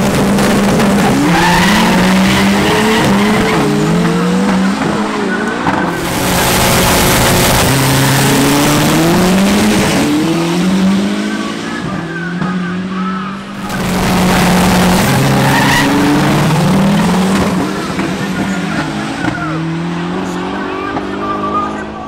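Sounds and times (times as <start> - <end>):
drag racing car engines at full throttle: 0.0 - 22.0.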